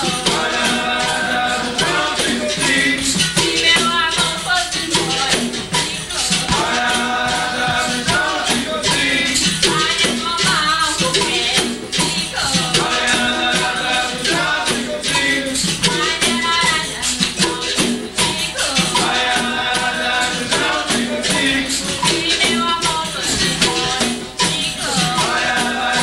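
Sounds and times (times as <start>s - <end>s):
tambourine jingles: 0.0s - 26.0s
voices singing: 0.0s - 26.0s.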